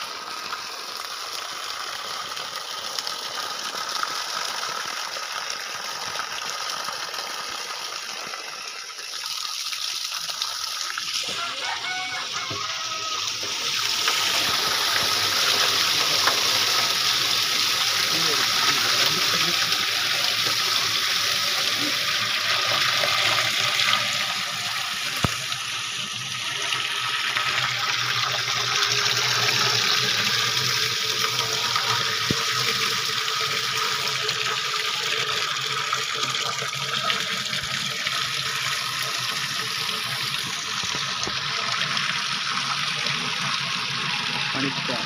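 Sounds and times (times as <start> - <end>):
water gushing from hose into drum: 0.0 - 45.0.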